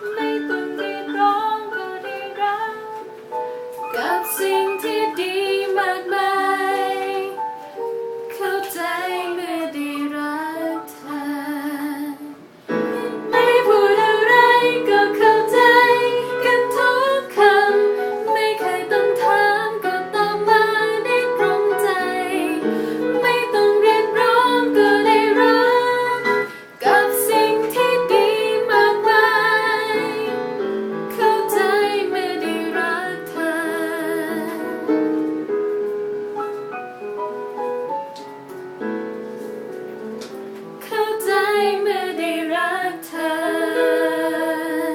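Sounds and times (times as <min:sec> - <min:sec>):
woman singing: 0:00.0 - 0:03.1, 0:03.9 - 0:07.4, 0:08.3 - 0:35.0, 0:40.8 - 0:44.9
piano accompaniment: 0:00.0 - 0:44.9.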